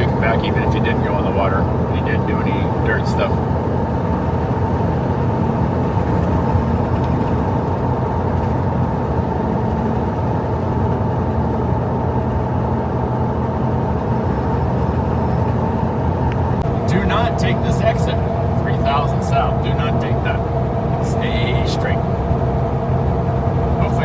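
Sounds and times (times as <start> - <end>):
car road noise from inside: 0.0 - 24.0.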